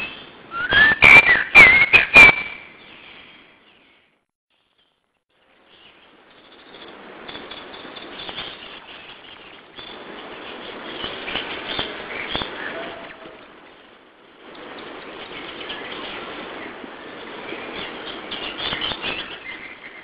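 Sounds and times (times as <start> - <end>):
steady background hiss: 0.0 - 20.0
small birds chirping: 2.4 - 20.0.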